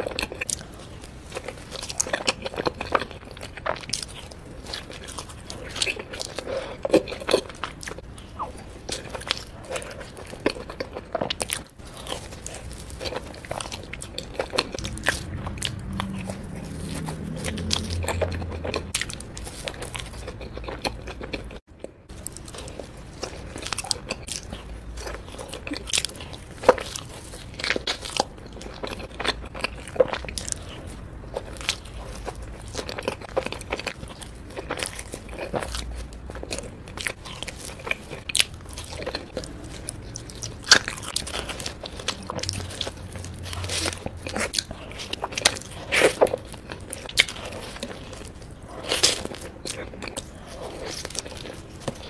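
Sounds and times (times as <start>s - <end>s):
person chewing doughnuts: 0.0s - 52.0s.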